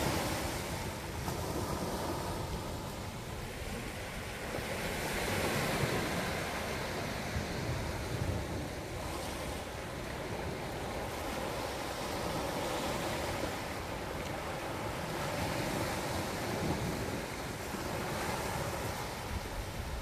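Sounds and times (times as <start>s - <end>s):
sea waves washing over rocks: 0.0s - 20.0s.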